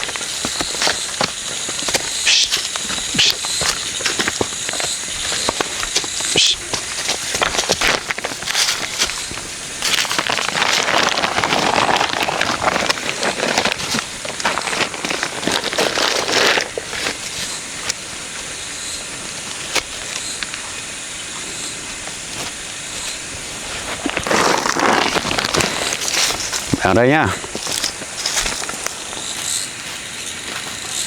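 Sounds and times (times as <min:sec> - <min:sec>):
rustling crackling noise: 0:00.0 - 0:31.0.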